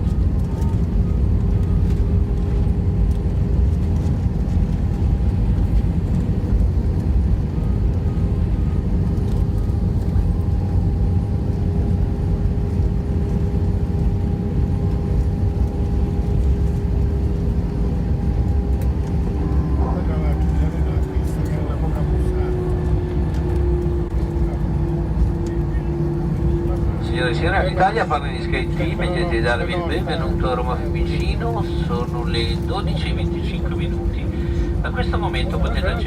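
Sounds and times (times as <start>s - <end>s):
aircraft cabin engine rumble: 0.0s - 36.0s
even hum: 0.0s - 36.0s.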